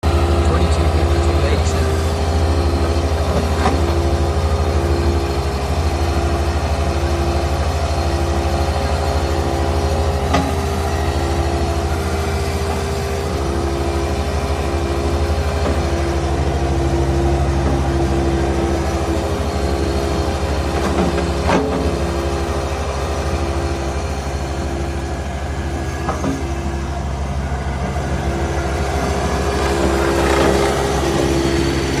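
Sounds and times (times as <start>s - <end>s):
loader engine running: 0.0s - 32.0s.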